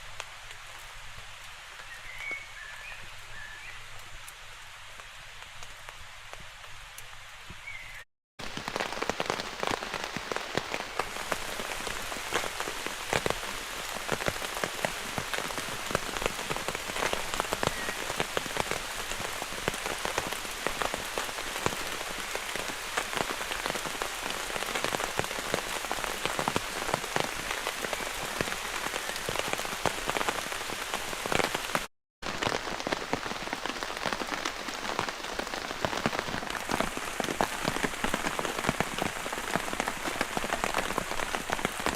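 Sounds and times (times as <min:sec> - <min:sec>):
heavy rain on a tarp: 0:00.0 - 0:41.9.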